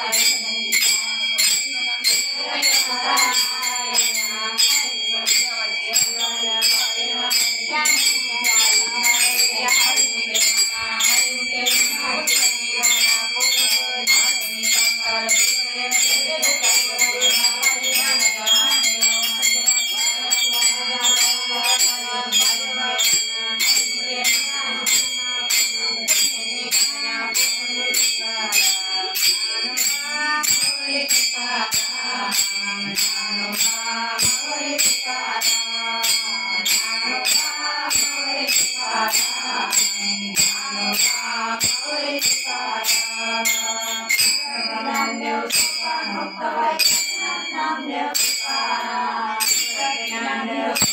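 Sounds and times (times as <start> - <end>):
woman singing devotional song: 0.0 - 50.9
hand cymbals clashing: 0.2 - 45.8.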